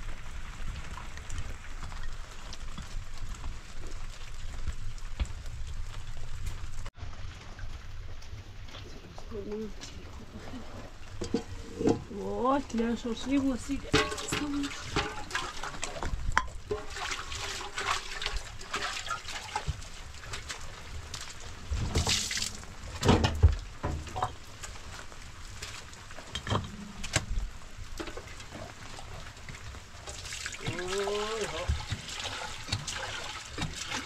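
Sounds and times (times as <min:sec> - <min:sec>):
water splashing and trickling: 0:00.0 - 0:34.0.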